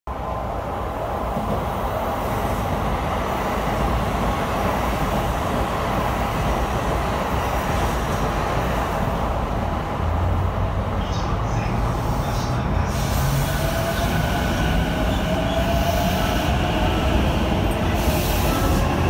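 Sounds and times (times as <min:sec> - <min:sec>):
high-speed train rumbling past: 0:00.1 - 0:19.0.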